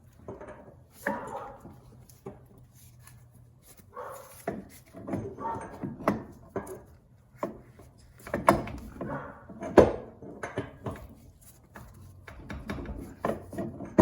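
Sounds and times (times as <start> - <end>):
tools and metal parts clacking: 0.0 - 3.3, 4.0 - 14.0.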